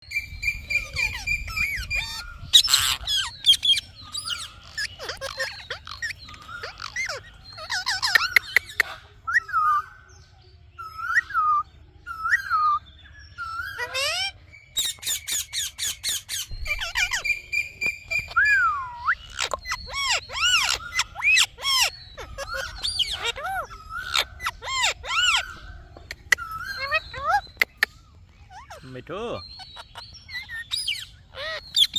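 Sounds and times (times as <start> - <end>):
parrot chirps whistles and squawks: 0.1 - 31.9.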